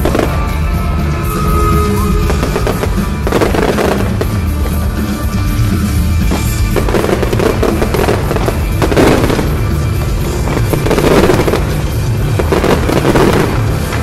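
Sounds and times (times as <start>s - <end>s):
fireworks crackling and banging: 0.0s - 14.0s
loud show music: 0.0s - 14.0s.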